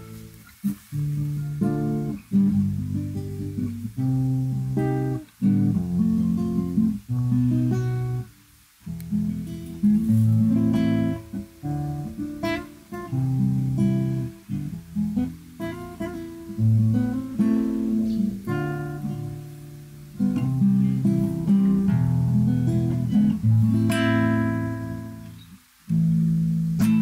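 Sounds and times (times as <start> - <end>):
classical guitar fingerstyle: 0.0 - 27.0.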